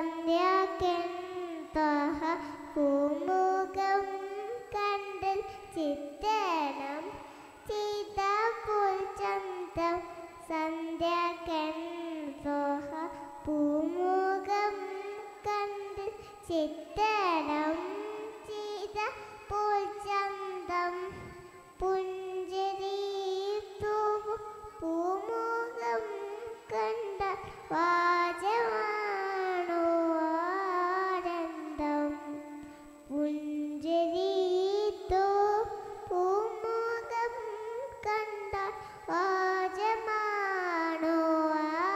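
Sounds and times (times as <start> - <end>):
girl singing into microphone: 0.0 - 41.9.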